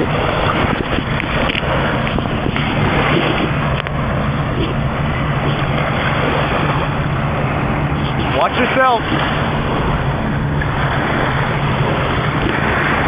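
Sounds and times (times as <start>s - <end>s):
low steady hum: 0.0s - 13.0s
wind buffeting microphone: 0.0s - 13.0s.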